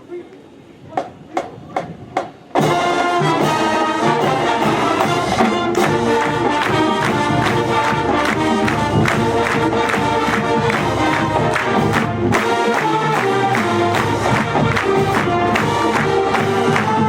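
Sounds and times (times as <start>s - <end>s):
steady drum beat: 0.9s - 17.0s
marching band brass: 1.1s - 17.0s.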